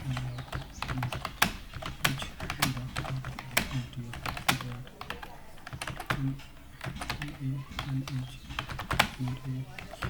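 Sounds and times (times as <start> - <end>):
computer keyboard typing: 0.0 - 10.0.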